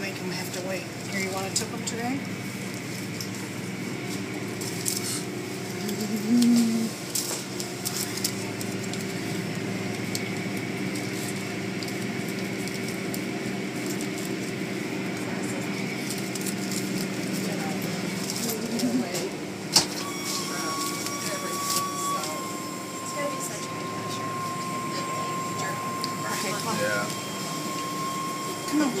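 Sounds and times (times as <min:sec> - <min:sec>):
car wash machine hum: 0:00.0 - 0:29.0
short hum-like tone: 0:00.2 - 0:29.0.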